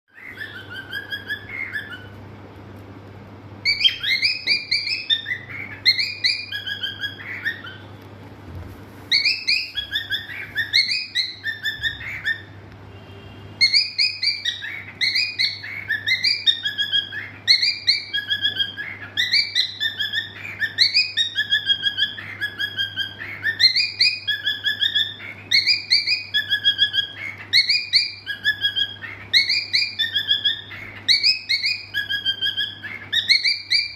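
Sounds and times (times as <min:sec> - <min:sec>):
cockatiel whistling: 0:00.1 - 0:02.2, 0:03.6 - 0:08.0, 0:09.1 - 0:12.6, 0:13.6 - 0:33.9.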